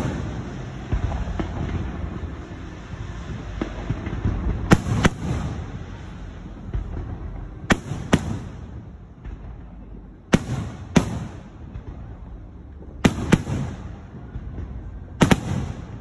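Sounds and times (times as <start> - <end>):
low rumble of fireworks: 0.0 - 16.0.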